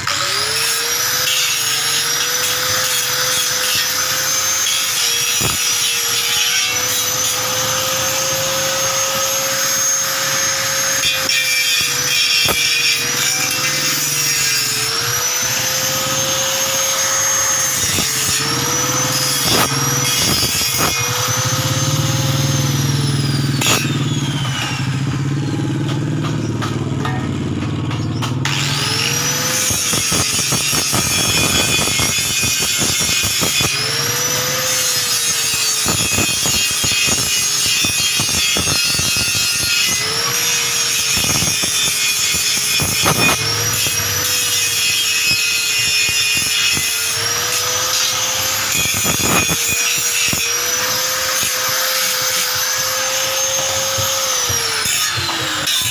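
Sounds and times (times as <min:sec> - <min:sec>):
electric tool motor running: 0:00.0 - 0:55.9
scraping grinding noise: 0:00.0 - 0:55.9.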